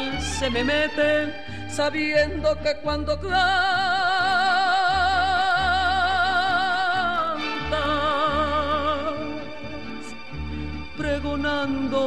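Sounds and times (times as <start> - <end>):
person singing with vibrato: 0.0 - 10.2, 10.9 - 12.0.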